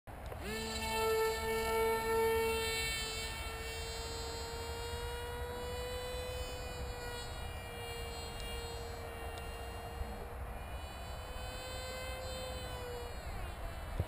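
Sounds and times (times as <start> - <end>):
electric motor and propeller whine: 0.1 - 14.0.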